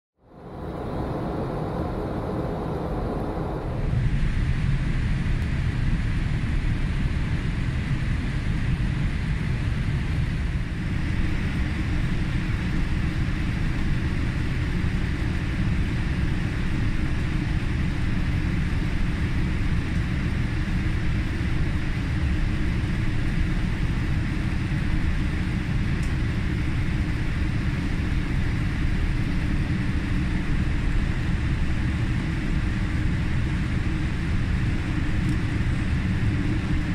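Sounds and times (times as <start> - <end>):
airliner cabin engine noise: 0.2 - 36.9.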